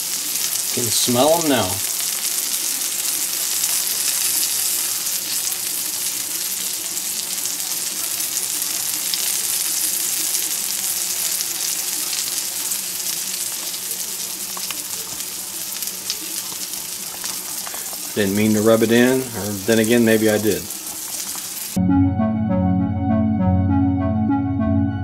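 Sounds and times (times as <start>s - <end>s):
mushrooms sizzling in frying pan: 0.0s - 21.8s.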